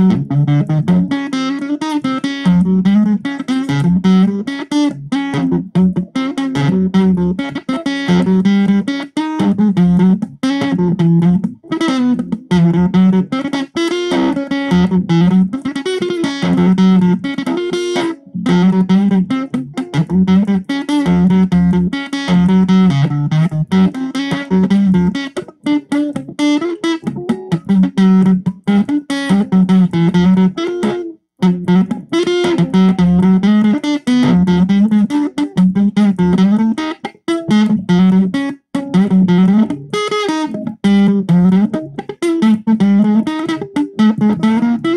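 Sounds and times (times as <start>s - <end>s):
distorted electric guitar riff: 0.0s - 44.9s.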